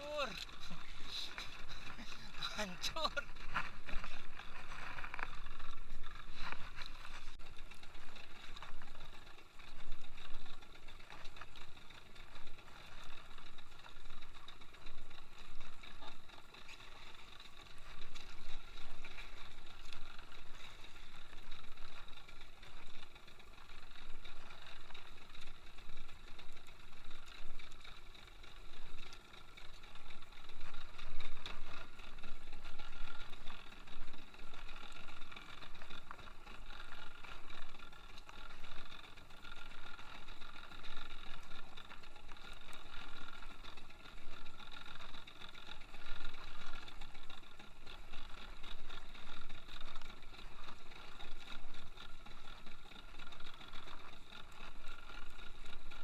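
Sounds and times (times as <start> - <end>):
water noise: 0.0 - 56.0
wind: 0.0 - 56.0.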